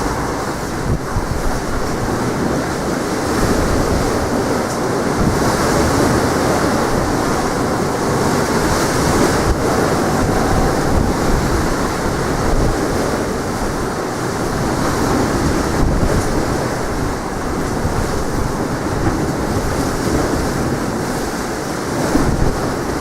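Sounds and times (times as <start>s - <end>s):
sea waves washing onto shore: 0.0s - 23.0s
wind buffeting microphone: 0.0s - 23.0s.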